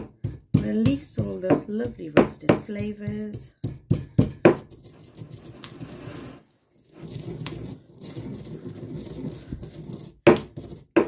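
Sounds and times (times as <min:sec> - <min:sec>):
stone pestle grinding seeds: 0:00.0 - 0:11.0.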